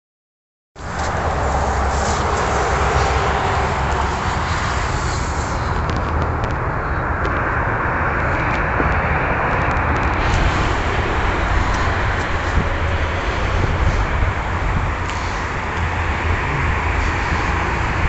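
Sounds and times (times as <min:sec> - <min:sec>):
car engine idling: 0:00.9 - 0:18.0.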